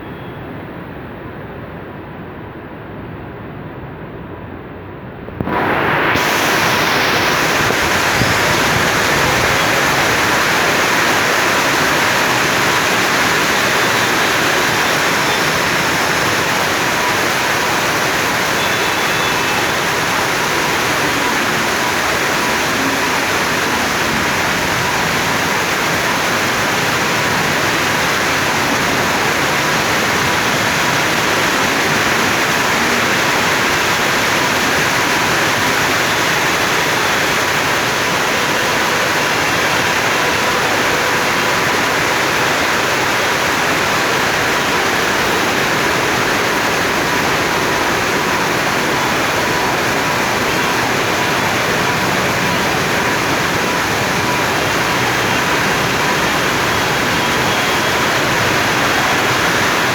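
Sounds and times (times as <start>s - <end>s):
steady rain falling: 5.3s - 59.9s.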